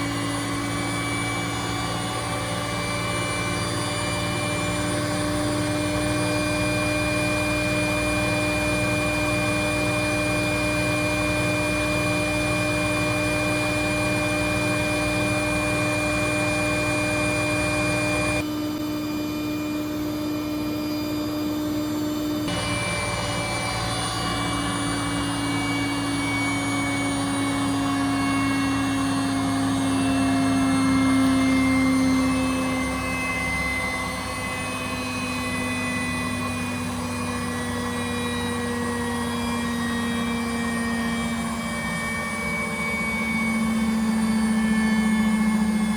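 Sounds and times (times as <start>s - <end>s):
washing machine motor whine: 0.0s - 45.9s.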